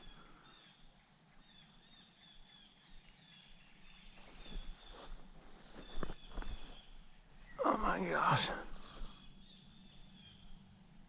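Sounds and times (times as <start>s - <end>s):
chorus of crickets: 0.0s - 11.0s.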